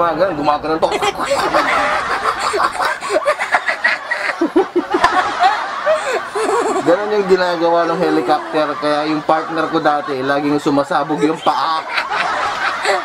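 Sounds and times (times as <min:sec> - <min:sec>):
boy laughing hard: 0:00.9 - 0:09.9, 0:11.0 - 0:13.0.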